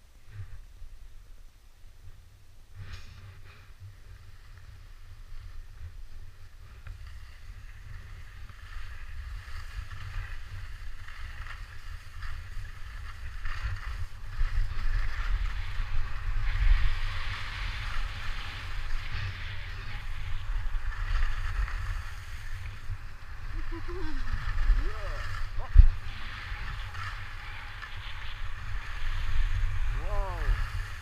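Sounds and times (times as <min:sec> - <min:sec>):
wind rumbling on microphone: 0:00.0 - 0:31.0
skis hissing over packed snow: 0:02.7 - 0:31.0.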